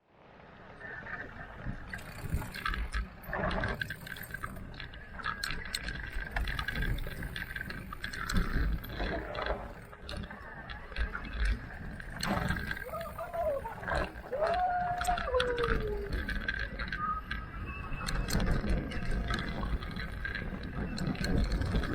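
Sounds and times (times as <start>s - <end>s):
bike tyres rumbling on dirt: 0.2s - 21.9s
bike knocking and rattling: 1.6s - 21.9s.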